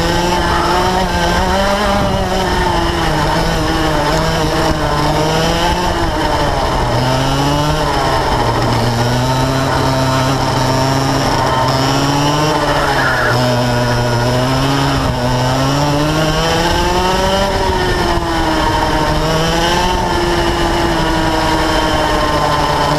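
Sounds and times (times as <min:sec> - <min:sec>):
two-stroke kart engine racing: 0:00.0 - 0:22.9.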